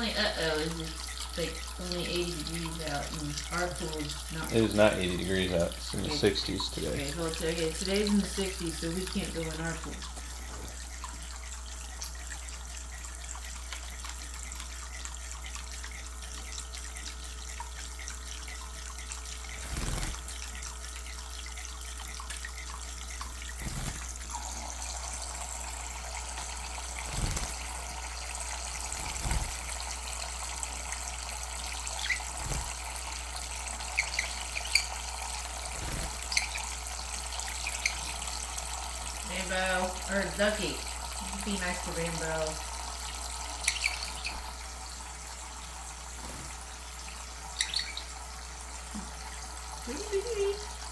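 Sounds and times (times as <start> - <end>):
tap water running: 0.0 - 50.9.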